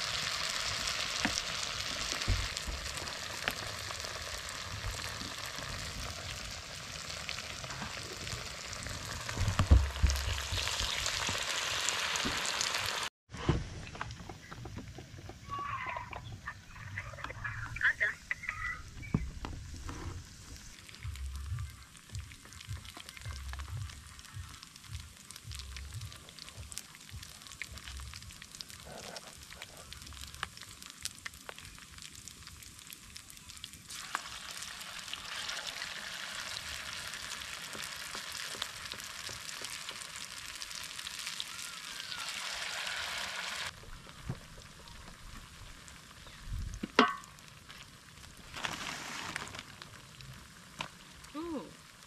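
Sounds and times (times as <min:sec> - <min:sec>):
potatoes frying in hot oil: 0:00.0 - 0:13.1, 0:20.0 - 0:52.0.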